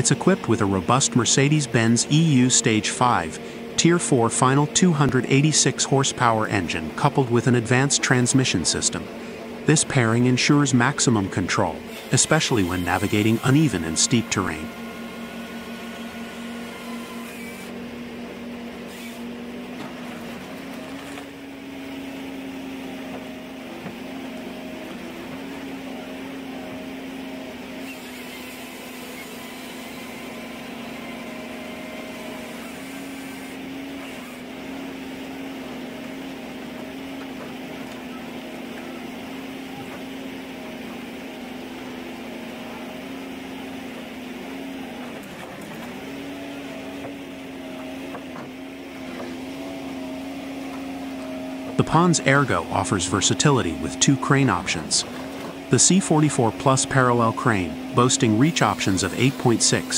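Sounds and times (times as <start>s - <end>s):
harvester engine drone: 0.0s - 59.9s.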